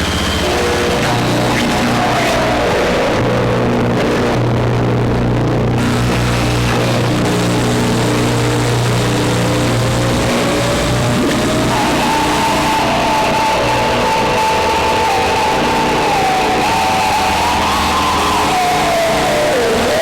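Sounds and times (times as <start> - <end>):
low steady drone: 0.0 - 19.9
distorted electronic noise: 0.0 - 20.0.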